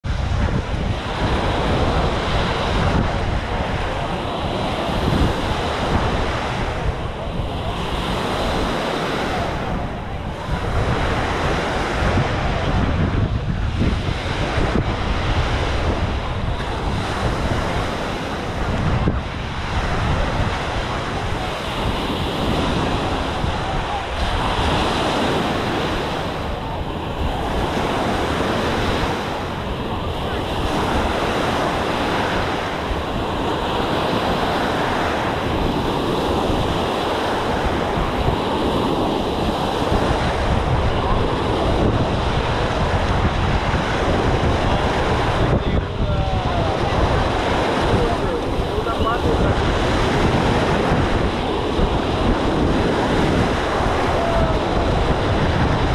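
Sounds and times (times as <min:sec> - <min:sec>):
ocean waves breaking on sand: 0:00.0 - 0:55.9
wind buffeting microphone: 0:00.0 - 0:55.9.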